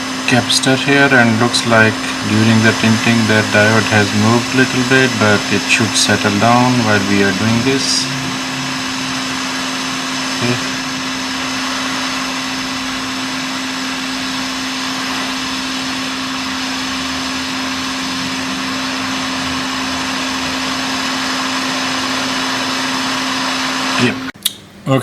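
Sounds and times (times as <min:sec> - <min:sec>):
hot air blower hissing: 0:00.0 - 0:24.4.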